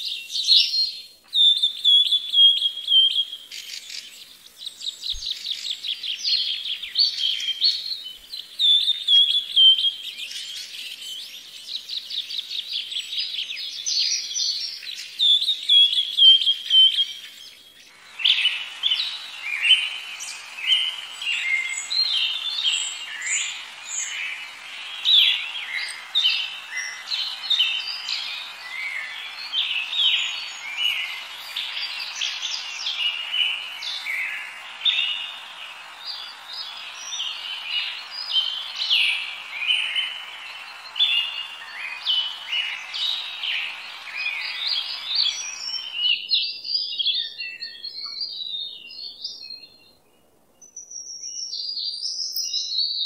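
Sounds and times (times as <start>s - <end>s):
steady hiss: 0.0s - 48.1s
small birds chirping and trilling: 0.0s - 53.0s.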